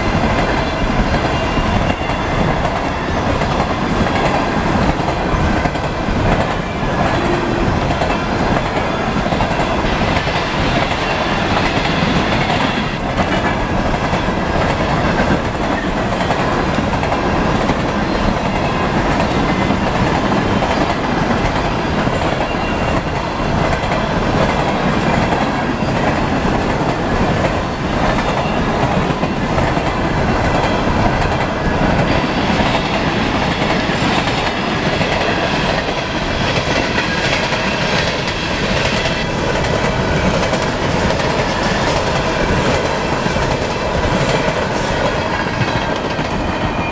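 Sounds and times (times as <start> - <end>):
train cars rolling past: 0.0 - 46.9.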